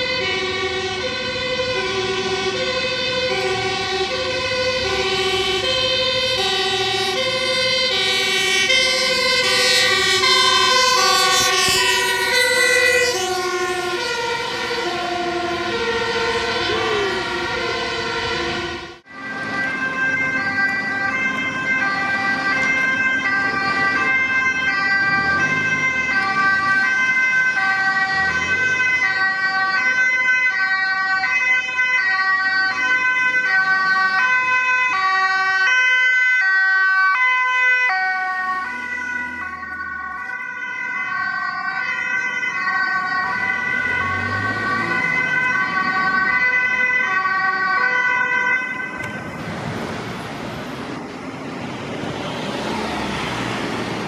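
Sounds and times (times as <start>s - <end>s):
two-tone ambulance siren: 0.0s - 54.0s.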